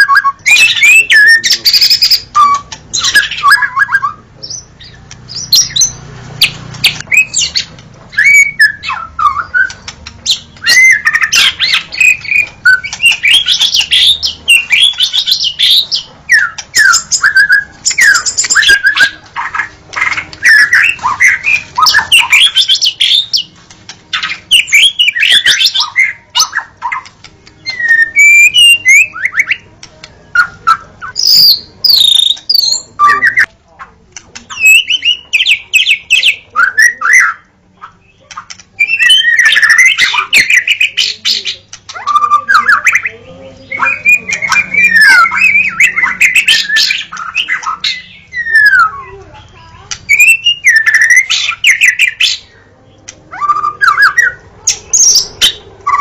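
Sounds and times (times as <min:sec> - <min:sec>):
bird singing whistled phrases: 0:00.0 - 0:23.5, 0:24.1 - 0:29.7, 0:30.3 - 0:33.5, 0:34.4 - 0:49.2, 0:50.1 - 0:52.5, 0:53.3 - 0:56.0.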